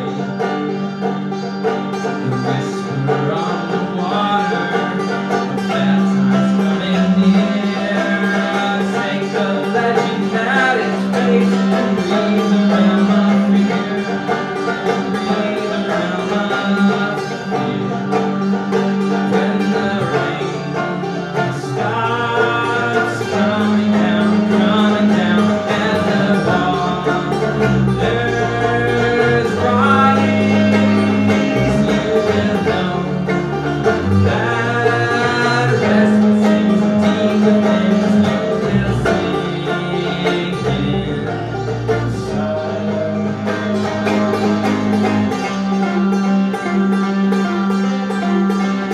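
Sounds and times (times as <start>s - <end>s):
banjo picking: 0.0s - 48.9s
bowed double bass: 0.0s - 48.9s.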